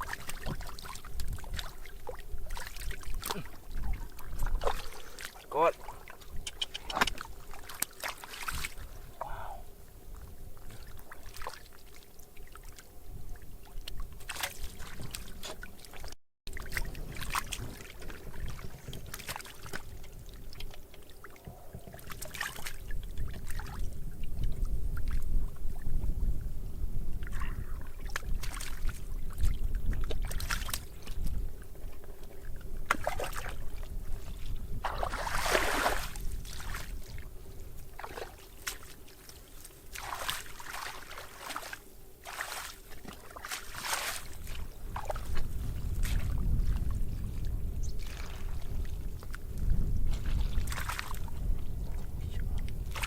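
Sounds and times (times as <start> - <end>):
water splashing and sloshing: 0.0 - 26.1, 27.1 - 53.0.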